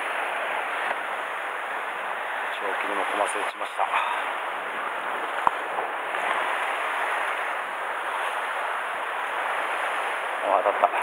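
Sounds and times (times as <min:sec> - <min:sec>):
sea surf on rocky shore: 0:00.0 - 0:11.0.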